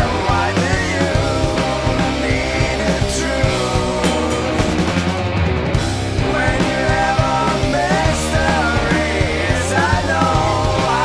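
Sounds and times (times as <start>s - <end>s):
heavy rock band playing: 0.0s - 11.0s.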